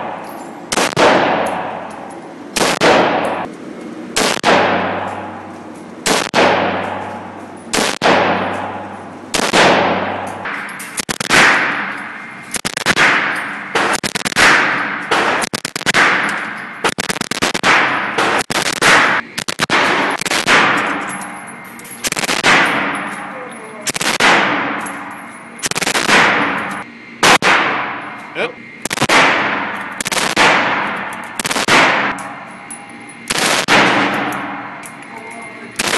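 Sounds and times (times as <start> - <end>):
gunshots echoing indoors: 0.0 - 35.9.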